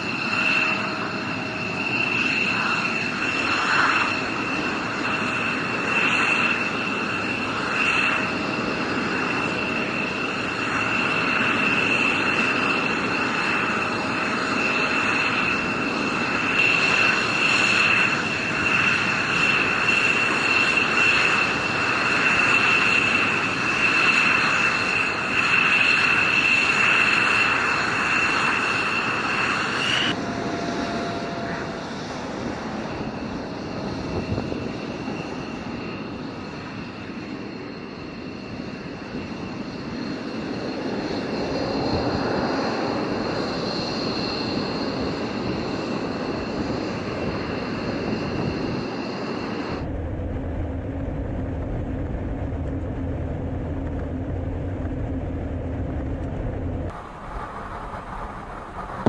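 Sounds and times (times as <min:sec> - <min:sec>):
jet aircraft noise: 0:00.0 - 0:59.0.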